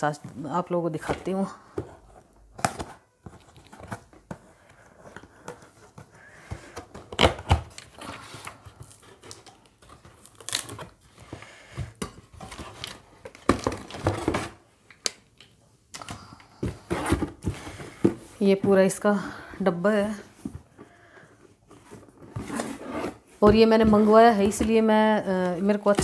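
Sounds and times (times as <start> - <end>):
plastic and cardboard rustling: 0.0 - 14.9, 16.5 - 26.0.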